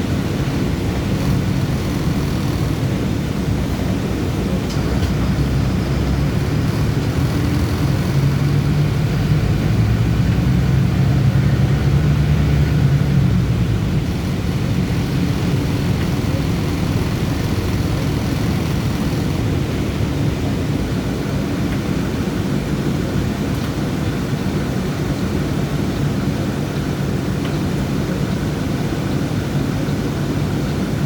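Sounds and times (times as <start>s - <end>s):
bus engine droning: 0.0s - 31.0s.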